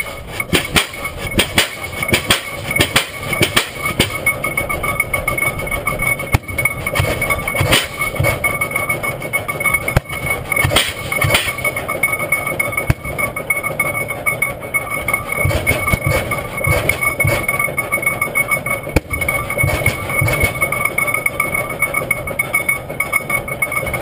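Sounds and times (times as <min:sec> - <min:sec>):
sharp metallic clicks and clanks: 0:00.0 - 0:24.0
steady high whine: 0:00.0 - 0:24.0
tractor engine running slowly: 0:00.0 - 0:24.0.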